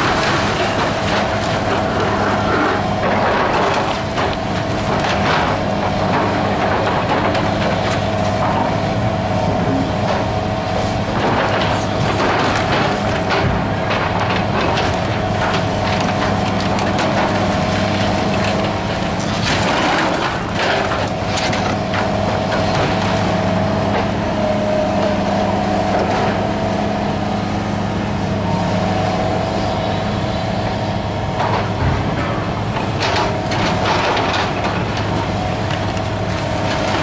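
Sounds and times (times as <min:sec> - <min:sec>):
debris crashing and cracking: 0:00.0 - 0:27.3, 0:28.8 - 0:37.0
excavator engine running: 0:00.0 - 0:37.0.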